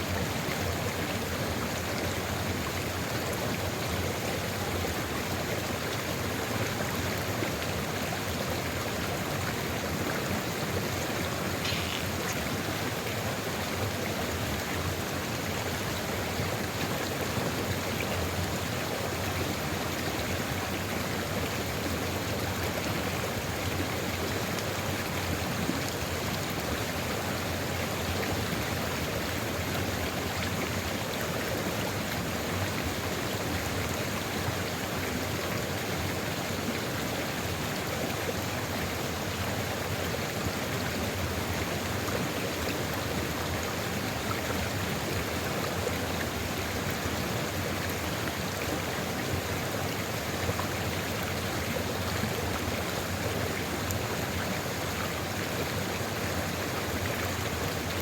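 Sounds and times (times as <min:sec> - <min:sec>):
river flowing: 0:00.0 - 0:58.0.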